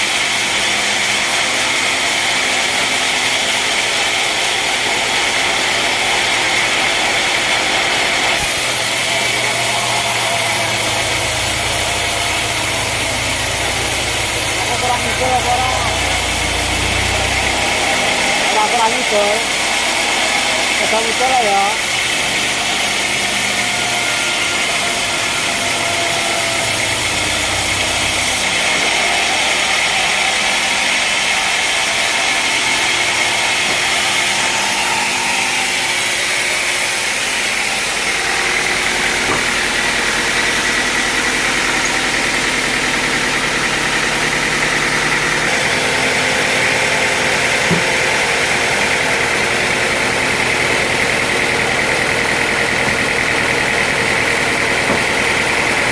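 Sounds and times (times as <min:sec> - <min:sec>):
saw high whine: 0:00.0 - 0:55.9
sawmill engine running: 0:00.0 - 0:55.9.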